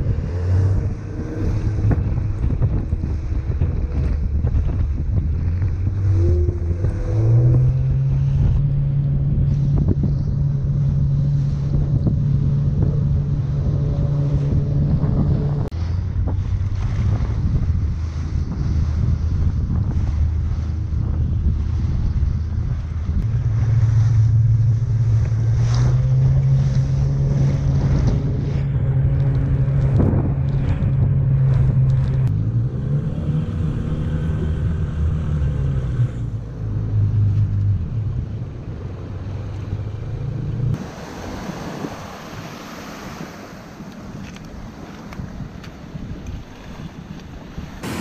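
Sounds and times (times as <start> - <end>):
surf washing on beach: 0.0 - 40.2, 40.8 - 48.0
boat on choppy water: 0.0 - 48.0
outboard motors running: 0.0 - 48.0
wind on microphone: 0.0 - 48.0.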